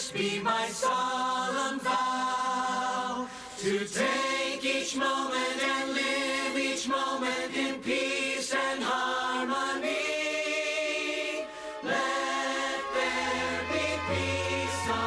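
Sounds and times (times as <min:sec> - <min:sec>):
choir singing a slow hymn: 0:00.0 - 0:15.0.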